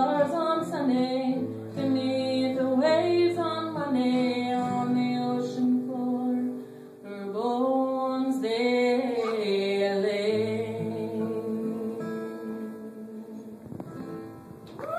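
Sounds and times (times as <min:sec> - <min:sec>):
woman singing: 0:00.0 - 0:13.9
strummed acoustic guitar: 0:00.0 - 0:14.9.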